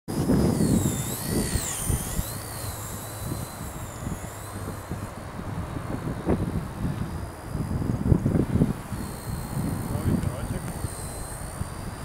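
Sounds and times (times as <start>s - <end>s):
rc helicopter rotor whine: 0.1s - 12.0s
wind buffeting microphone: 0.1s - 12.0s.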